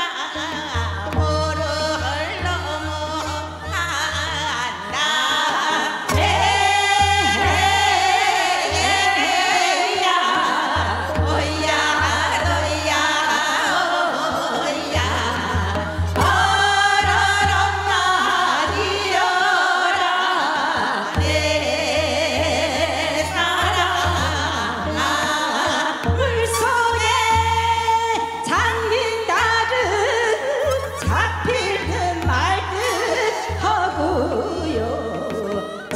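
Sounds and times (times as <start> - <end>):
woman singing folk song: 0.0 - 35.9.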